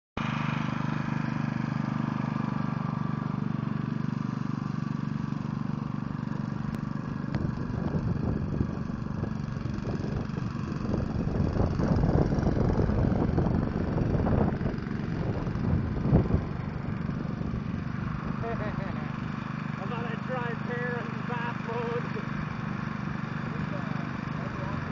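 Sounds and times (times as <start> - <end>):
lawn mower engine running: 0.2 - 24.9.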